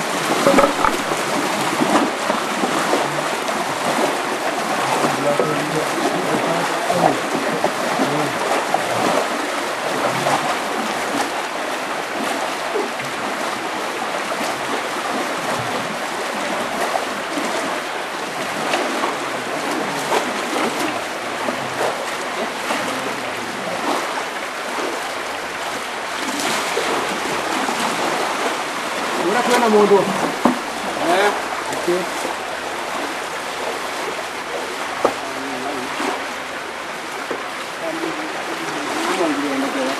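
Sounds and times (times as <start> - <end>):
small irregular splashes: 0.0 - 39.9
water rushing along channels: 0.0 - 39.9.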